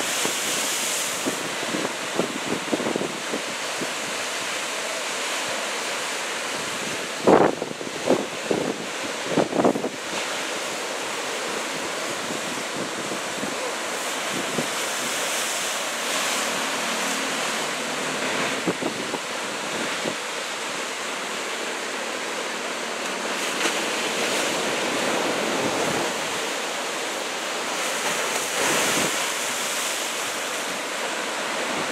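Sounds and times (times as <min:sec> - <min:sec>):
ocean waves breaking: 0:00.0 - 0:31.9.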